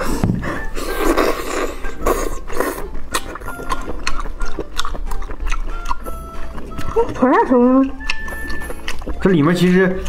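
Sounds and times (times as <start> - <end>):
wet chewing and lip-smacking: 0.0 - 10.0.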